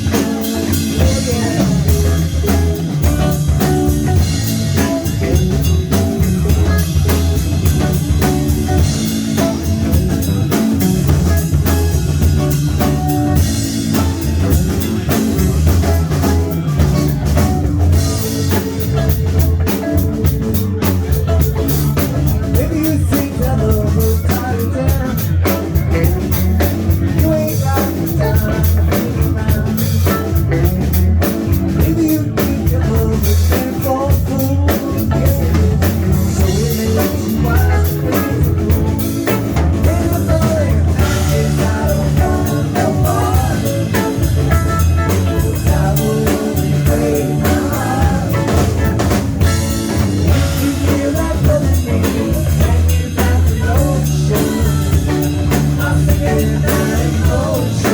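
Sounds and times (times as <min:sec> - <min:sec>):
bass: 0:00.0 - 0:57.9
drum kit beat: 0:00.0 - 0:57.9
guitar: 0:00.0 - 0:57.9.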